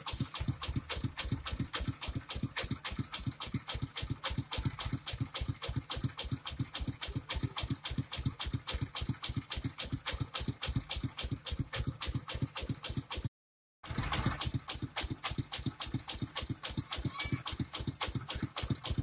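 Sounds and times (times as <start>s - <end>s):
engine chugging: 0.0s - 19.0s.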